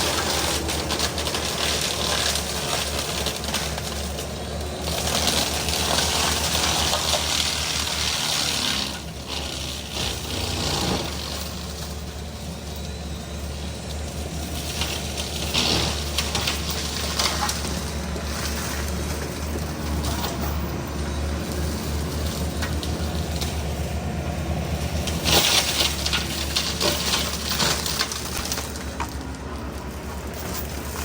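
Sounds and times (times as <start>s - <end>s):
crunching and cracking of branches: 0.0s - 31.0s
excavator diesel drone: 0.0s - 31.0s
forestry mulcher running: 0.0s - 31.0s.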